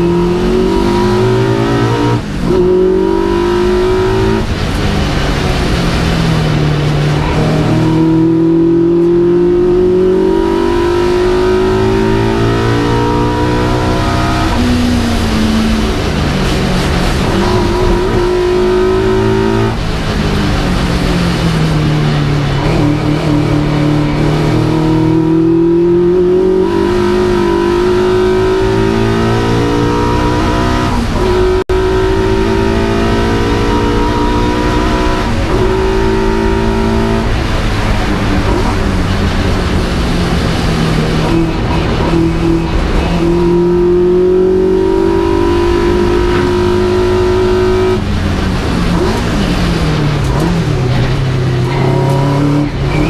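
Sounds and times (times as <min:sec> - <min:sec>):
race car engine accelerating: 0:00.0 - 0:53.0.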